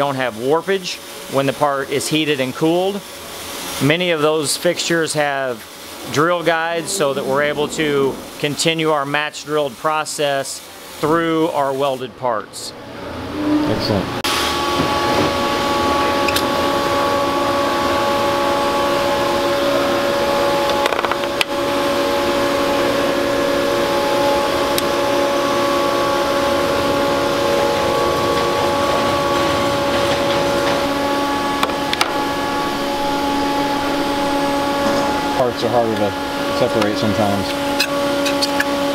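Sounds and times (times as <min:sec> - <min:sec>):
press machine hum and whine: 0:00.0 - 0:38.9.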